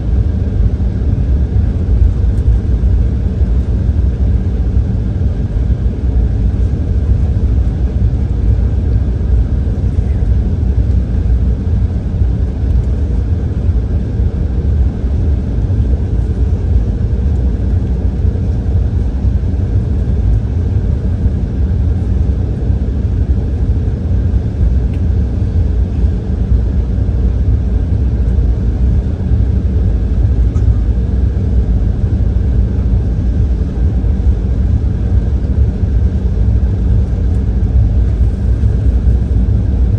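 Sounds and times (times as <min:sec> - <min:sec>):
faint constant hum: 0:00.0 - 0:39.9
jet airliner engines rumbling: 0:00.0 - 0:39.9.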